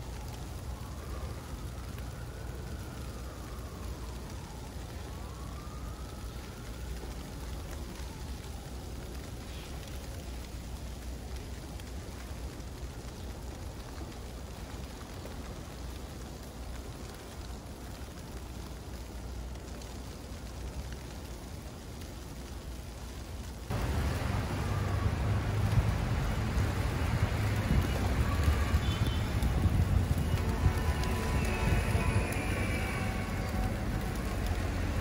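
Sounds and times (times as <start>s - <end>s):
outdoor hiss with low rumble: 0.0s - 35.0s.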